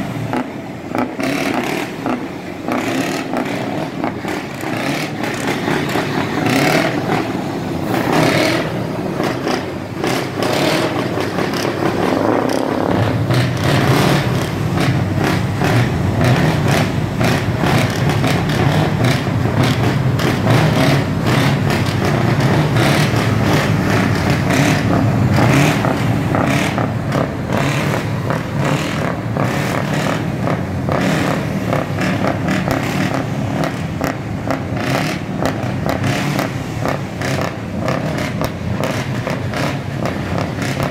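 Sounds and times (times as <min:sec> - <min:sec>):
diesel truck engines revving: 0:00.0 - 0:40.9.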